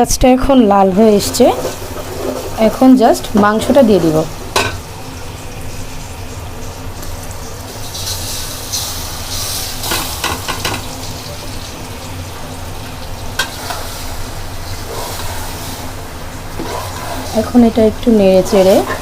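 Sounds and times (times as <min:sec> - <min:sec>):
beef sizzling in hot oil: 0:00.5 - 0:19.0.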